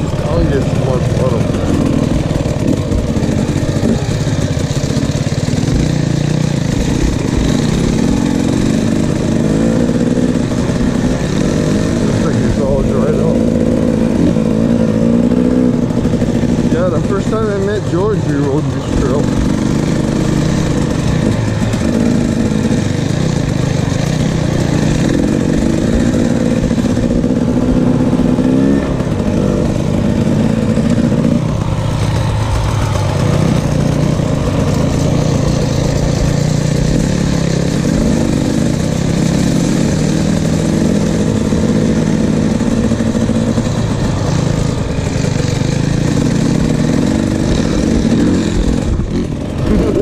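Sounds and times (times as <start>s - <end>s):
two-stroke motorcycle engine revving: 0.0s - 50.0s.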